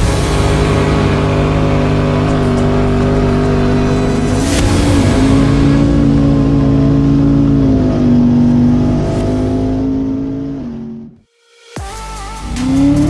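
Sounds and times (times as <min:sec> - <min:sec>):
truck engine revving high: 0:00.0 - 0:11.2, 0:12.3 - 0:13.0.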